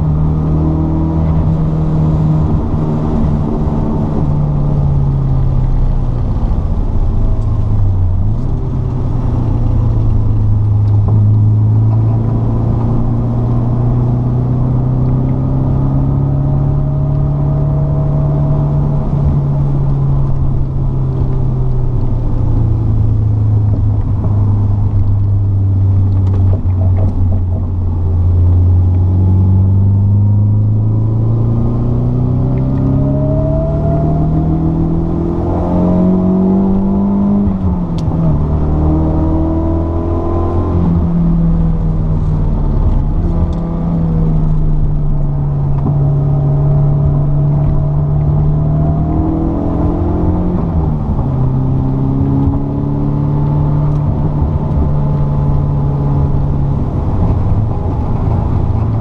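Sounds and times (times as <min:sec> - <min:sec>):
car engine revving: 0:00.0 - 0:59.0
road and tyre noise: 0:00.0 - 0:59.0.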